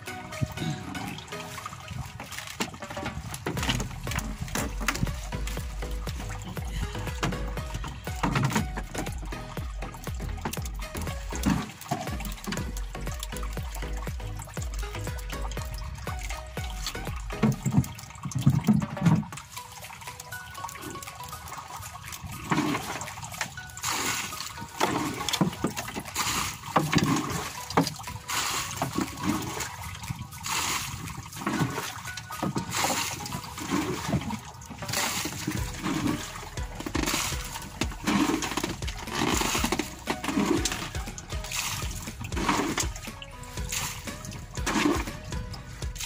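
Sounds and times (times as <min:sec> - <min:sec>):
faint music: 0:00.0 - 0:46.0
water lapping against boat hull: 0:00.0 - 0:46.0.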